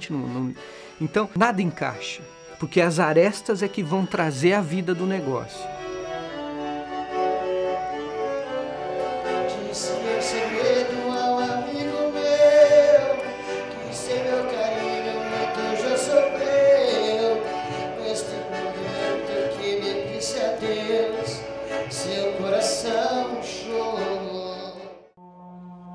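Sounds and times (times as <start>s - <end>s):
piano accordion playing chords: 0.0s - 25.2s.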